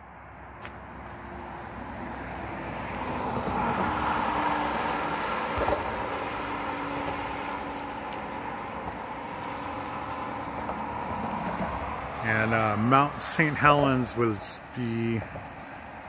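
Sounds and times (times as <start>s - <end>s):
car passing by: 0.4s - 16.0s.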